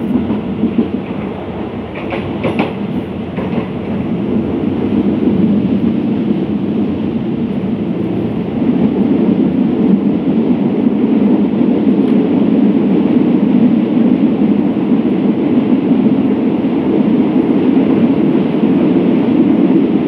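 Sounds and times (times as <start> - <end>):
train running along track: 0.0 - 20.0.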